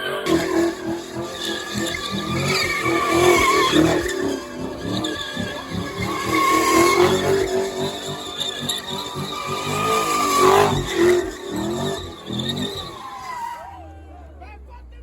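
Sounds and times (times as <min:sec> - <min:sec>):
car engine at high revs: 0:00.0 - 0:14.4
tyres squealing on pavement: 0:00.0 - 0:14.6.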